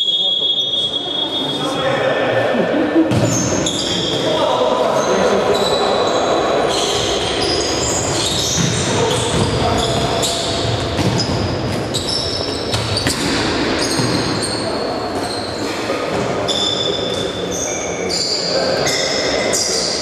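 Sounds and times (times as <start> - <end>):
shoes squeaking on court floor: 3.1 - 20.0.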